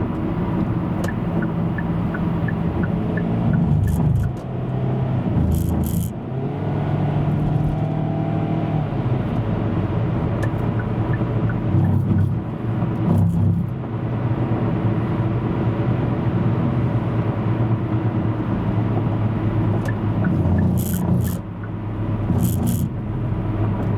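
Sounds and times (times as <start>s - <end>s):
car engine: 0.0s - 23.9s
road noise: 0.0s - 23.9s.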